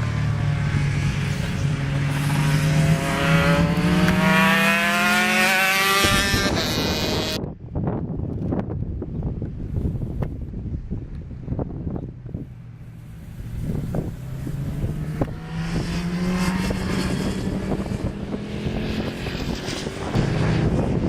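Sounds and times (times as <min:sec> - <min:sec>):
motorcycle engine accelerating: 0:00.0 - 0:07.4, 0:11.2 - 0:21.0
wind buffeting microphone: 0:00.2 - 0:21.0.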